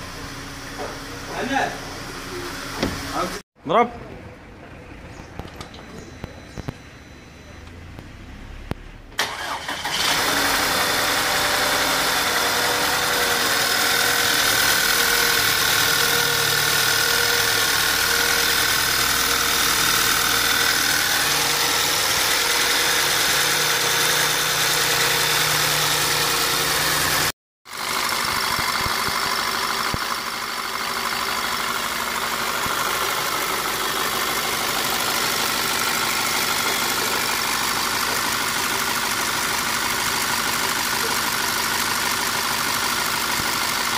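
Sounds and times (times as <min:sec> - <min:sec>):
car engine idling: 0:07.4 - 0:43.9.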